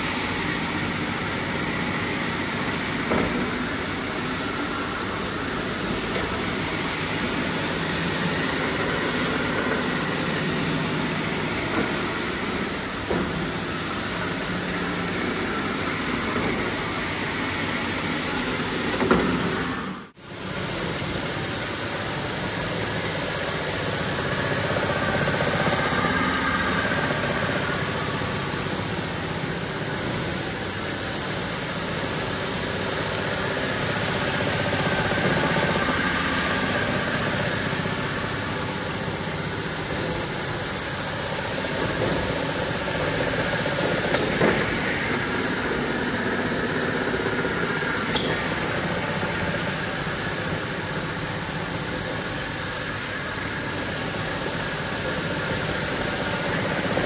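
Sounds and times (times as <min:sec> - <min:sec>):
rug-cleaning machine running: 0:00.0 - 0:57.0.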